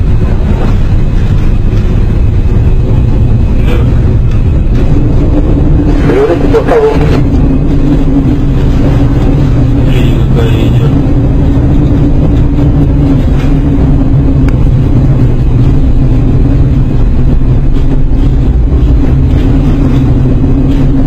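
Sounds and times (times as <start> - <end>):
ship engine drone: 0.0 - 21.0.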